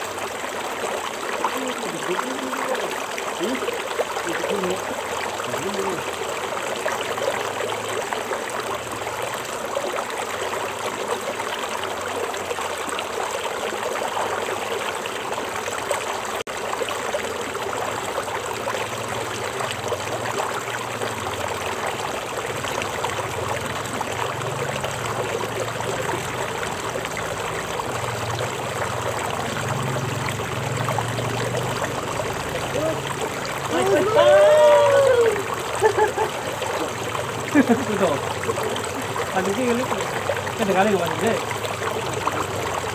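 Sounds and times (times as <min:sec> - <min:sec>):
stream water flowing: 0:00.0 - 0:42.9.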